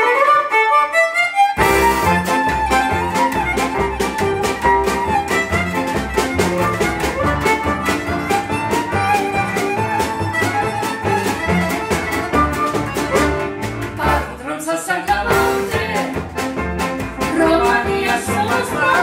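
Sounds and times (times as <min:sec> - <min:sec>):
violin melody: 0:00.0 - 0:14.5, 0:17.3 - 0:19.0
acoustic band playing dance tune: 0:00.1 - 0:19.0
drums steady beat: 0:01.6 - 0:14.4, 0:15.1 - 0:19.0.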